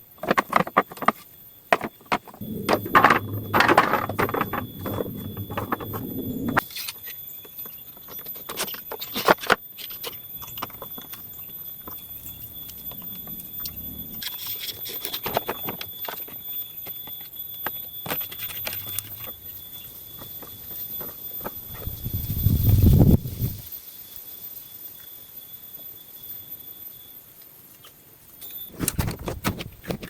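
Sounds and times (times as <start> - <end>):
leaves and sticks rustling: 0.1 - 24.6.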